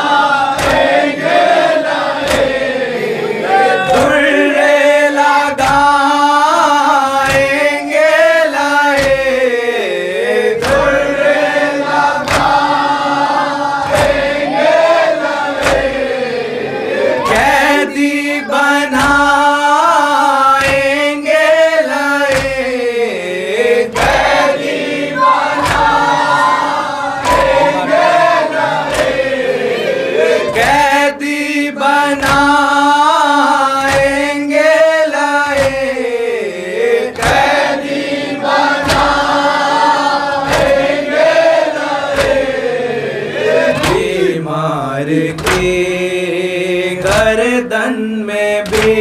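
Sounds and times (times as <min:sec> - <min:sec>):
men chanting a lament: 0:00.0 - 0:49.0
hands slapping chests: 0:00.3 - 0:04.5, 0:05.2 - 0:09.6, 0:10.4 - 0:16.2, 0:17.2 - 0:22.9, 0:23.6 - 0:29.6, 0:30.2 - 0:31.4, 0:32.0 - 0:36.2, 0:37.0 - 0:39.6, 0:40.2 - 0:44.4, 0:45.1 - 0:46.1, 0:47.0 - 0:47.6, 0:48.6 - 0:49.0.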